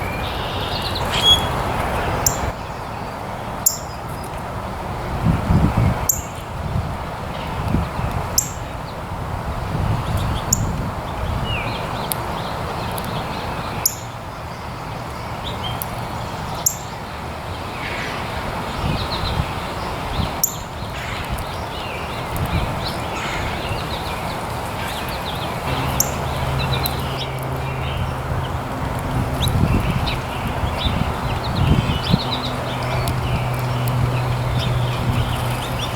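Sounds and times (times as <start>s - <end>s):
small birds chirping: 0.0s - 4.5s, 10.0s - 35.9s
low rumbling background noise: 0.0s - 35.9s.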